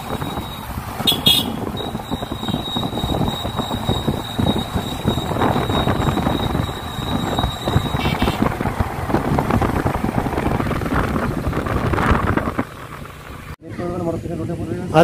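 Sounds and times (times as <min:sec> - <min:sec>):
wind buffeting microphone: 0:00.0 - 0:14.9
motorcycle engine and road noise: 0:00.0 - 0:15.0.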